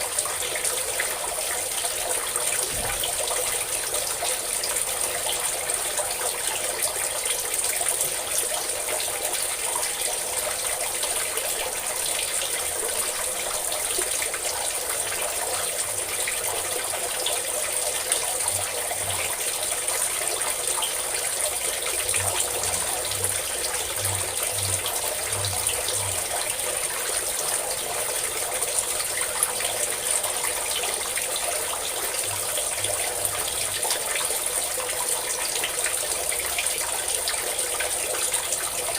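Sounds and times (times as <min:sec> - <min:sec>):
water pouring and splashing: 0:00.0 - 0:38.9.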